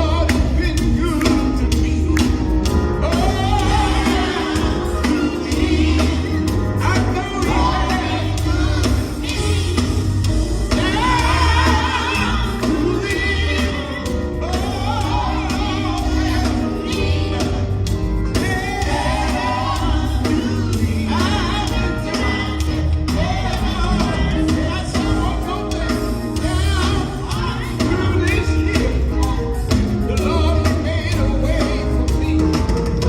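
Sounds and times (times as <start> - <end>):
band with bass line: 0.0 - 33.0
lead singer: 0.0 - 33.0.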